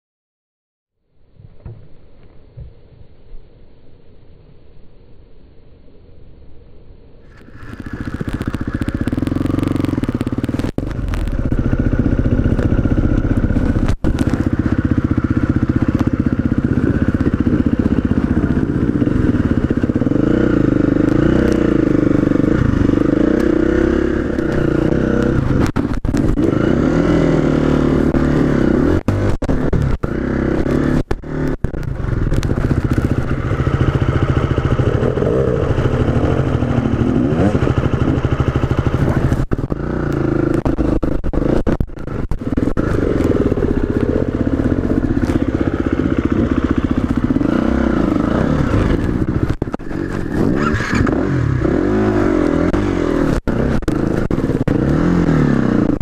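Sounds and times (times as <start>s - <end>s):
motorcycle engine revving: 7.3s - 56.0s.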